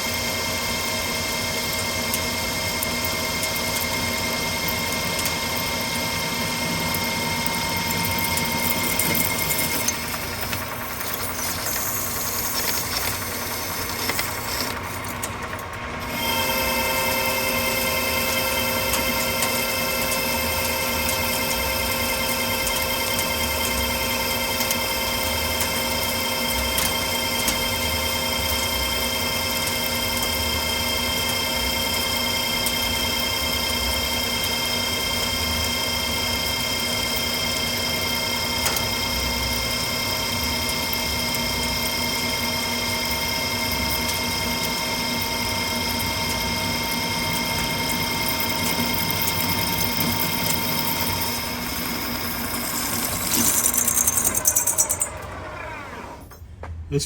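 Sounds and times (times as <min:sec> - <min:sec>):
metal lathe whining: 0:01.6 - 0:36.6, 0:37.2 - 0:56.3.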